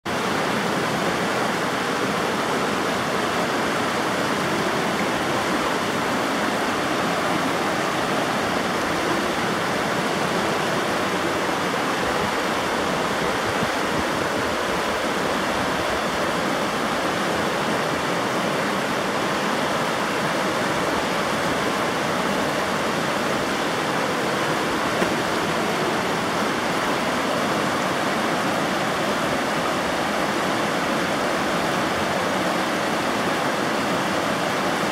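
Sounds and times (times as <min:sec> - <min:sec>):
river rushing over rocks: 0:00.1 - 0:34.9.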